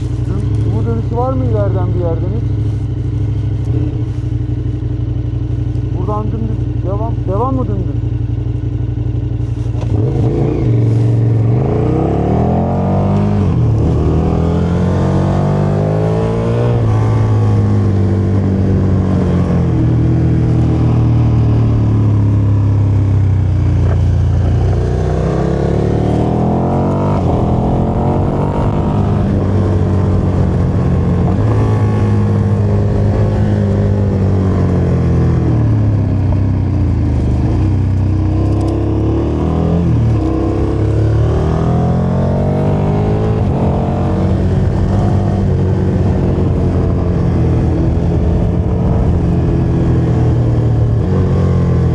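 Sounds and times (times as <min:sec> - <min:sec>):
motorcycle engine revving: 0:00.0 - 0:51.9
road and wind noise: 0:00.0 - 0:51.9.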